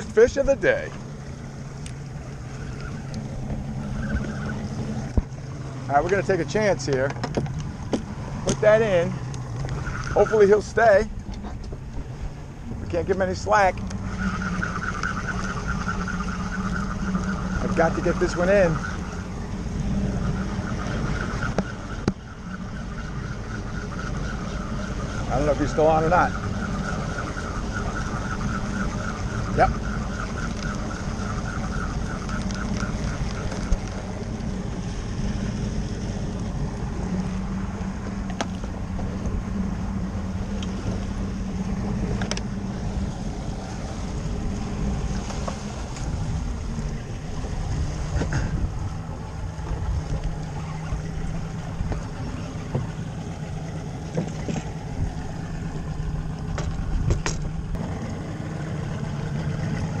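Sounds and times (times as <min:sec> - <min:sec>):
outboard motor running: 0:00.0 - 1:00.0.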